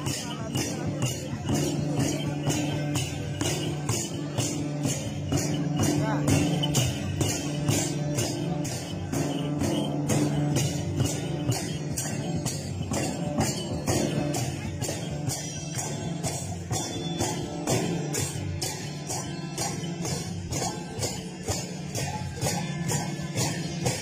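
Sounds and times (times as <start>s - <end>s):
jingling metal percussion: 0.0s - 24.0s.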